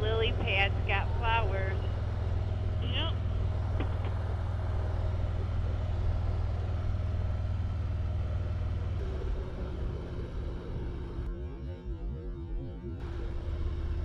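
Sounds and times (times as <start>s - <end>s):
wind and road noise: 0.0s - 11.3s
motorcycle engine drone: 0.0s - 14.0s.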